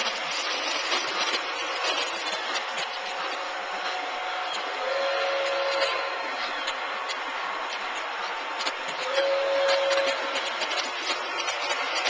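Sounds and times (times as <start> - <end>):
model train whirring: 0.0 - 12.0
wheels clicking over rail joints: 0.0 - 12.0.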